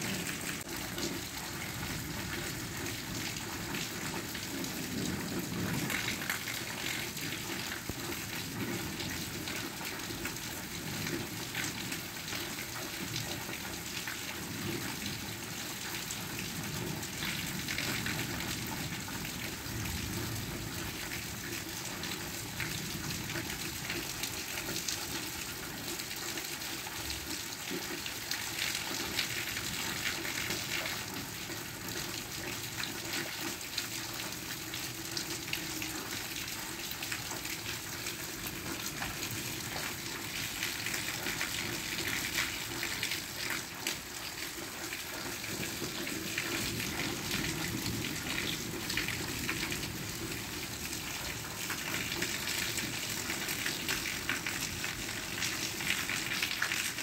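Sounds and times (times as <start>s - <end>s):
steady rain patter: 0.0s - 57.0s.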